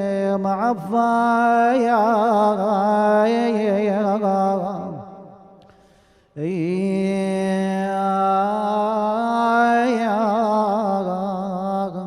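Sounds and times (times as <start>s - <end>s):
man chanting a lament: 0.0s - 5.6s, 6.4s - 12.0s.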